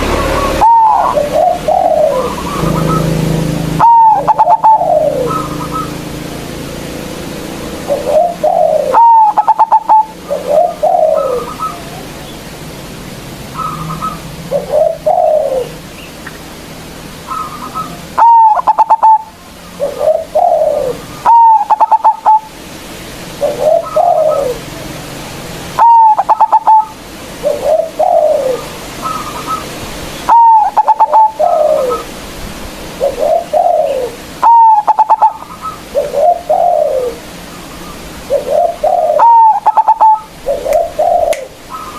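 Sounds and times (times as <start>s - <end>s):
dove cooing: 0.0s - 6.3s, 7.7s - 12.3s, 13.5s - 15.9s, 17.2s - 22.6s, 23.3s - 32.2s, 32.8s - 41.9s.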